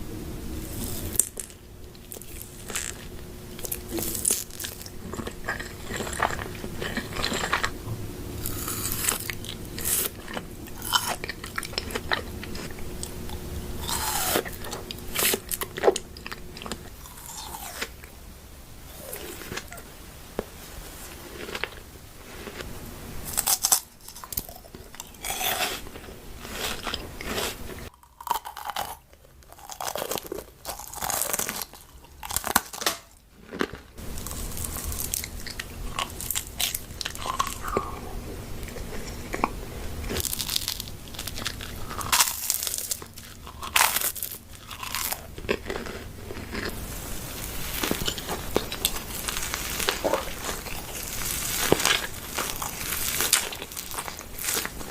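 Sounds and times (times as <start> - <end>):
person chewing crunchy food: 0.6 - 18.2, 18.9 - 19.8, 21.1 - 54.9.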